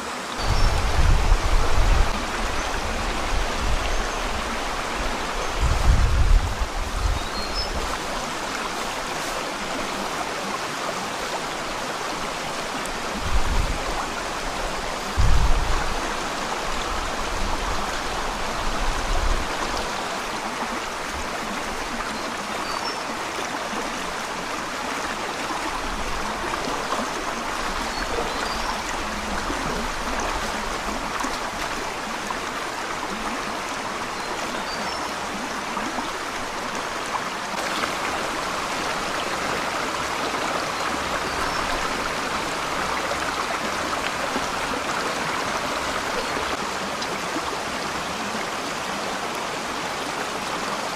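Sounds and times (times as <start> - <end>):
stream babbling over rocks: 0.0 - 50.9.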